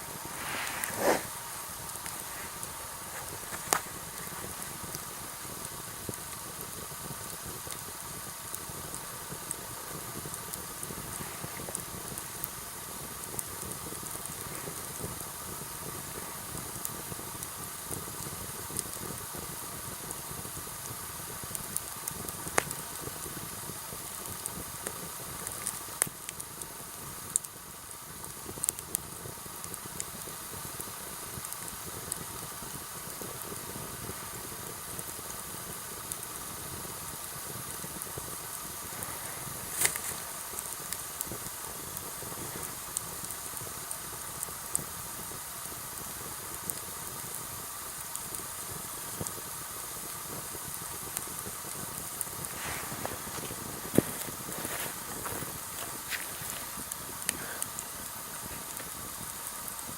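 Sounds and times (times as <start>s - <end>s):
campfire hissing: 0.0s - 59.9s
fire crackles and pops: 0.0s - 59.9s.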